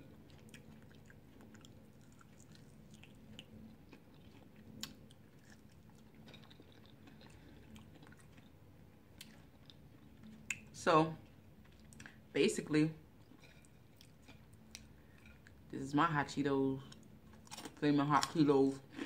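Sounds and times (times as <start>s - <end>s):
person chewing: 0.0s - 12.2s, 13.2s - 15.6s, 16.9s - 17.8s.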